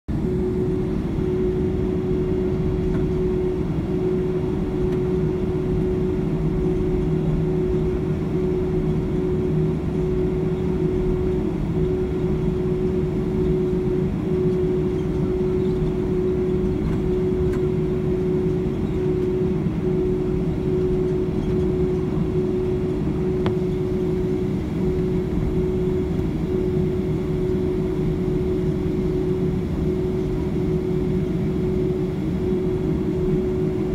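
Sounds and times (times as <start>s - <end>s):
jet engines idling: 0.1s - 33.9s.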